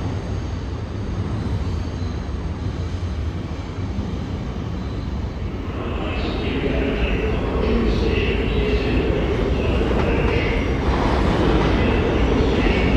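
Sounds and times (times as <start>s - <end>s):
subway train rumble: 0.0s - 12.9s.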